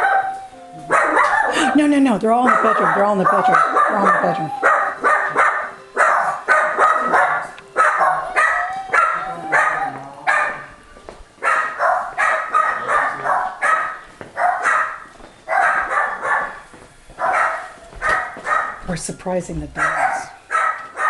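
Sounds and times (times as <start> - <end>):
dogs barking: 0.0 - 10.8, 11.4 - 18.9, 19.8 - 21.0.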